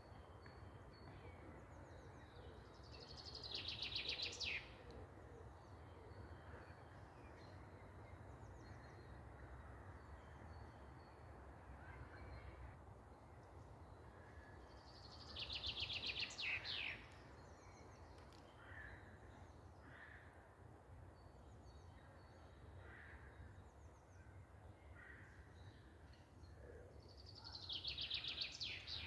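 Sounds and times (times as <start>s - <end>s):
songbirds singing trills: 0.0s - 9.4s, 13.4s - 19.9s, 21.0s - 29.0s.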